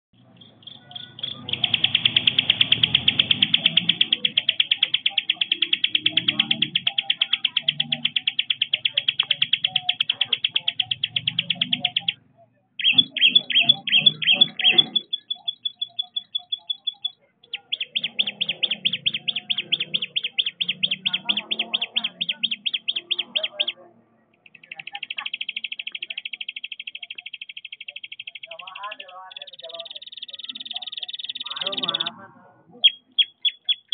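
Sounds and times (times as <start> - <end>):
insect-like chirping trill: 0.4 - 12.1, 12.8 - 23.8, 24.6 - 32.1.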